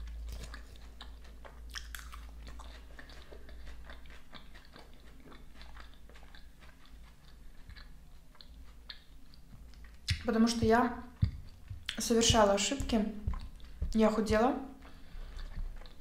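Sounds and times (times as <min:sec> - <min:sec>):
chewing salad: 0:00.0 - 0:16.0.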